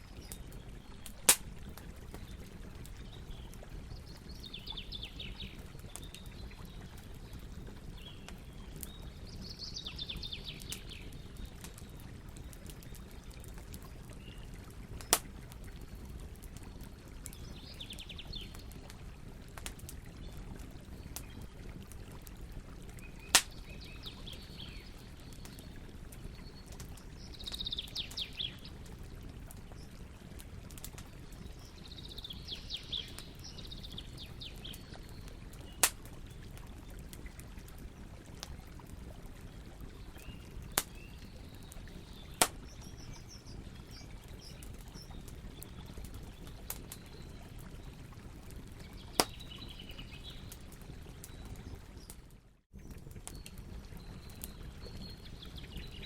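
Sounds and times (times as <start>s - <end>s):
campfire burning: 0.0s - 56.0s.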